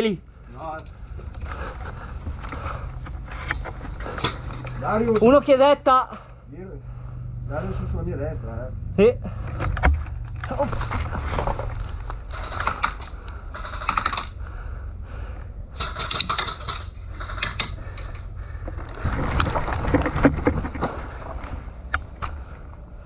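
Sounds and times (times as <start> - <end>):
low rumble of movement: 0.0 - 23.0.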